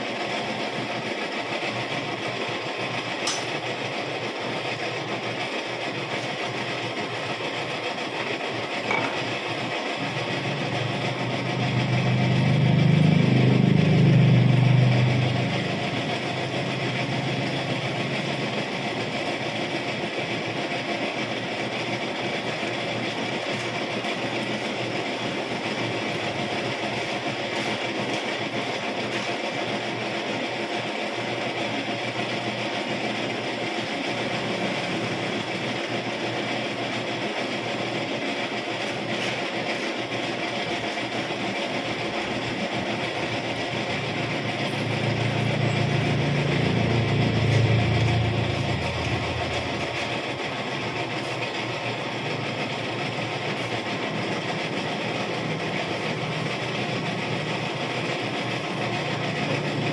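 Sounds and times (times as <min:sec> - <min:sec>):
metalworking machine running: 0:00.0 - 0:59.9.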